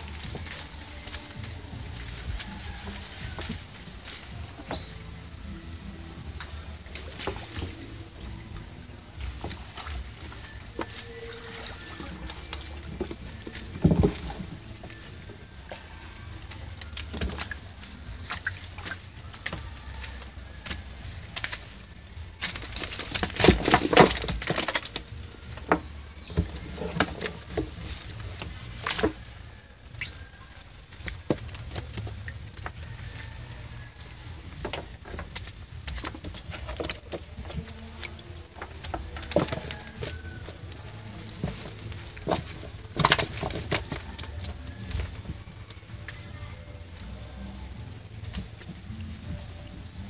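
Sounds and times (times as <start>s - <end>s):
wet netting knocking and rustling: 0.0s - 50.0s.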